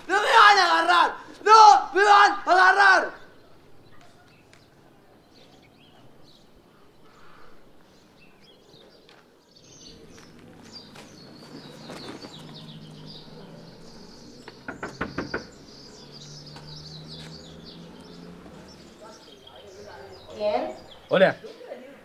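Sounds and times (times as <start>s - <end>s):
outdoor ambience: 0.0s - 22.0s
small birds chirping: 0.0s - 22.0s.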